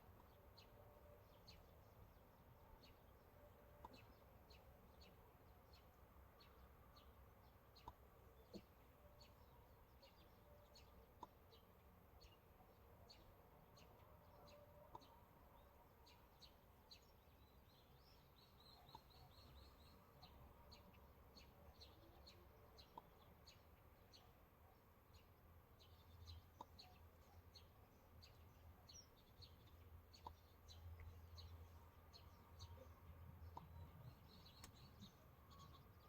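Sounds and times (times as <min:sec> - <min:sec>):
faint small bird chirps: 0:00.2 - 0:36.0.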